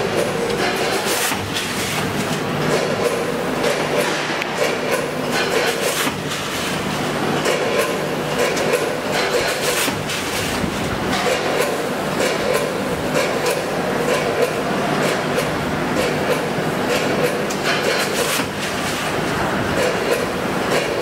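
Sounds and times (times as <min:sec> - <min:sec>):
packing machine humming: 0:00.0 - 0:21.0.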